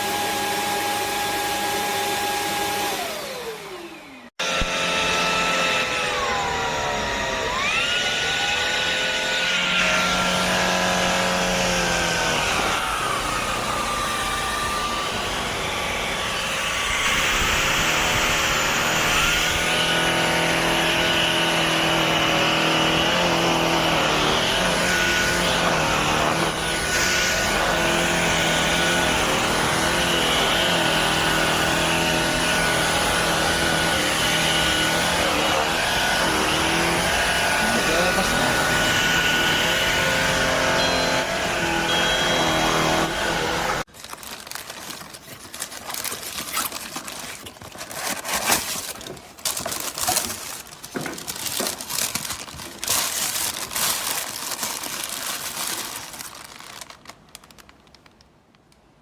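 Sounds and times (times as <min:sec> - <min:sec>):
stick vacuum running: 0:00.0 - 0:56.1.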